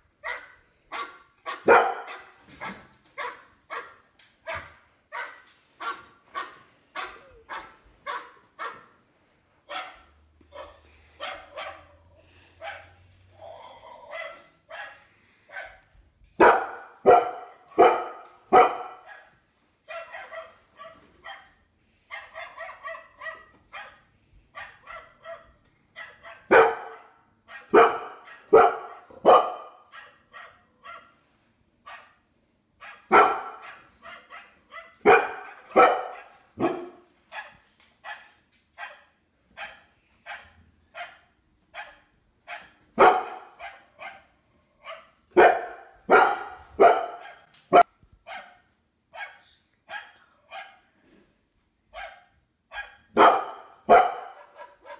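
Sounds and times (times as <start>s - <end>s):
dogs barking loudly: 0.1s - 48.6s, 51.9s - 54.9s.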